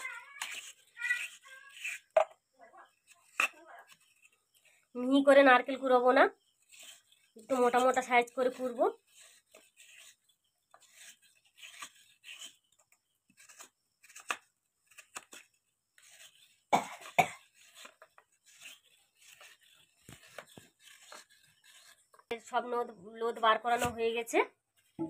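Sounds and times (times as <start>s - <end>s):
spoon scraping coconut shell: 0.0s - 4.9s, 6.4s - 22.3s.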